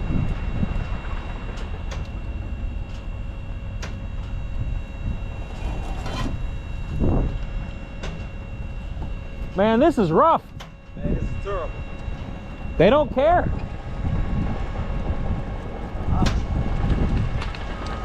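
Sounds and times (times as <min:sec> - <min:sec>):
truck engine rumbling: 0:00.0 - 0:18.0.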